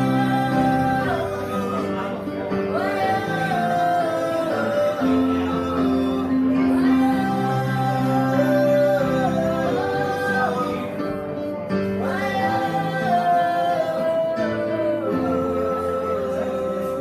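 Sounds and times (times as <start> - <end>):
woman singing: 0.0 - 11.2, 11.9 - 17.0
digital piano chords: 0.0 - 17.0
man singing: 0.0 - 17.0.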